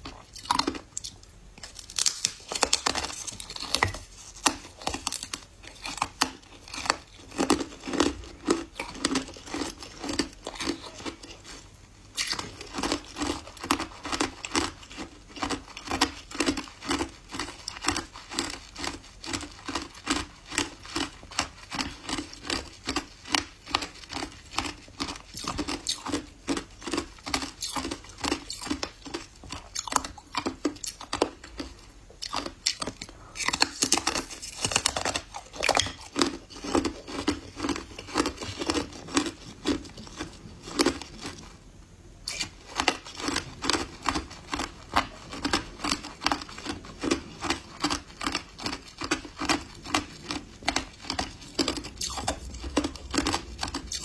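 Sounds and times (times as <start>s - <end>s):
ice crunching being chewed: 0.0s - 41.5s, 42.3s - 54.0s.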